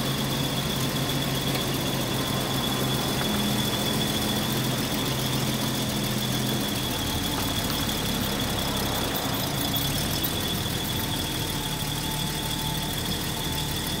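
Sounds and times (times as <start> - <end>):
car engine idling: 0.0 - 14.0
high whine: 0.0 - 14.0.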